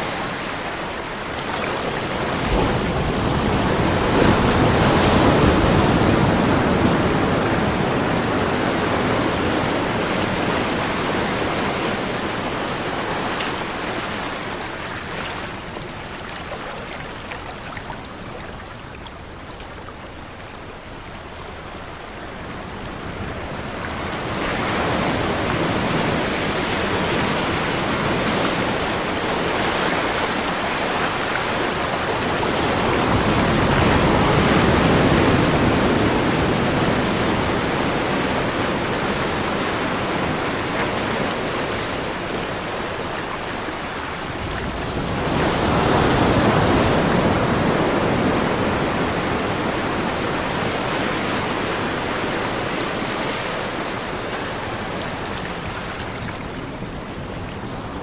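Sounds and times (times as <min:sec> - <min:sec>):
ocean waves rushing: 0:00.0 - 0:58.0.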